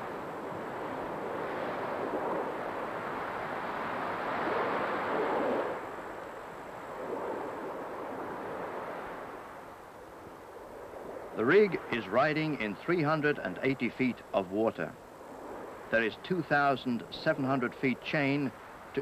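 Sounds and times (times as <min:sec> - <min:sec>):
rough sea waves breaking: 0:00.0 - 0:19.0
wind: 0:00.0 - 0:19.0.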